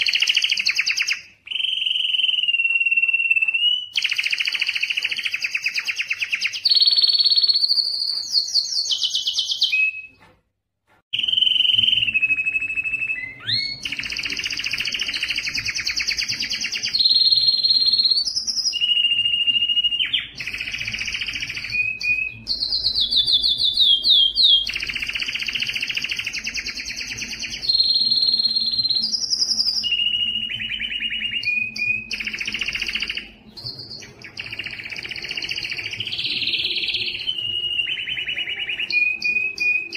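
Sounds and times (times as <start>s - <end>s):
canary singing trills: 0.0s - 10.2s, 11.2s - 39.9s.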